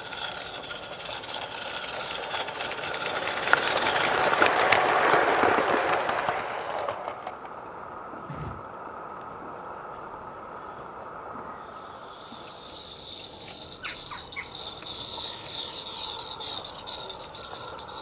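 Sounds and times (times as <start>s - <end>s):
steam locomotive running past: 0.0s - 8.1s, 10.8s - 18.0s.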